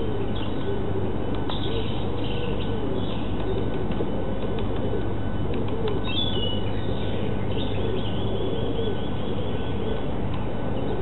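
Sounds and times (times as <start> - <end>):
songbirds singing: 0.0 - 11.0
steady low hum: 0.0 - 11.0.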